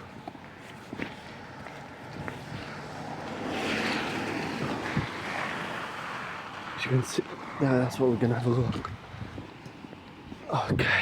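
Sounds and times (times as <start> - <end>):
footsteps outdoors: 0.0 - 11.0.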